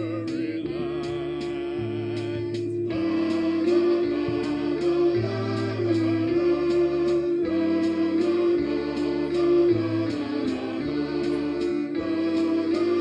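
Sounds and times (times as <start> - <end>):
band music: 0.0 - 13.0.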